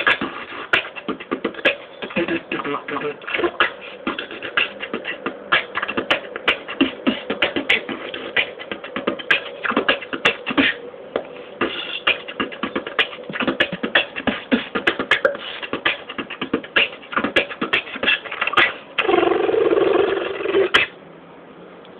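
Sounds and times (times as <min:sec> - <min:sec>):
beatboxing mouth percussion: 0:00.0 - 0:21.0.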